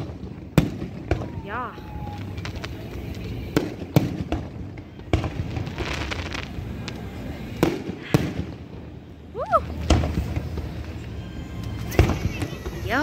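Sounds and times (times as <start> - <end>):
firework bangs: 0.0 - 13.0
firework crackling: 0.0 - 13.0.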